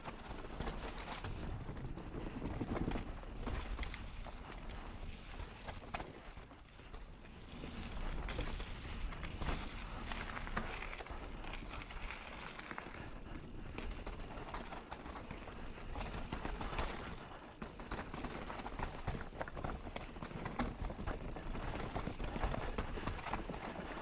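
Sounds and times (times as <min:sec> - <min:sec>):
bike tyres crunching over rock: 0:00.0 - 0:24.0.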